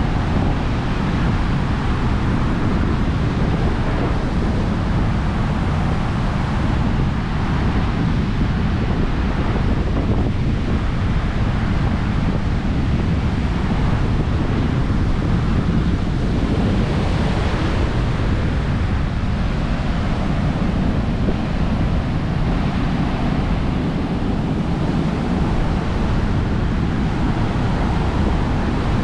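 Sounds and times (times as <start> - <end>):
heavy surf washing on beach: 0.0 - 29.0
wind blowing on microphone: 0.0 - 29.0.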